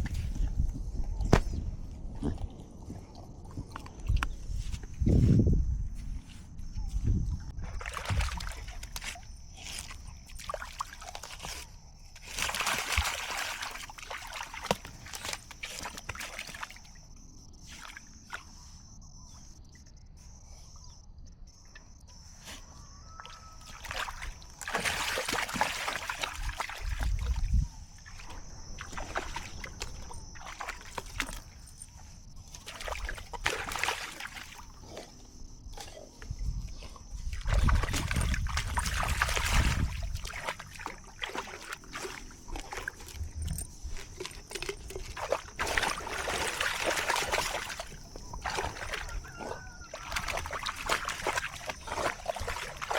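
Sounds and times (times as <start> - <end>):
water sloshing and splashing: 0.0 - 18.7, 23.2 - 52.9.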